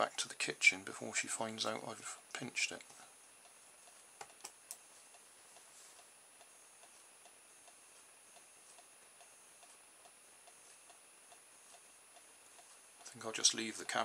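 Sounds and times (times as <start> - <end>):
faint even ticking: 1.7 - 14.0.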